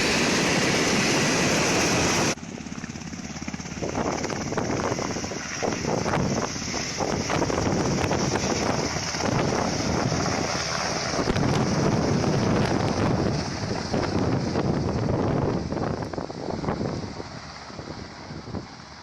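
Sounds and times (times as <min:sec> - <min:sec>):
helicopter roar: 0:00.0 - 0:19.0
rotor wash buffeting microphone: 0:00.0 - 0:19.0.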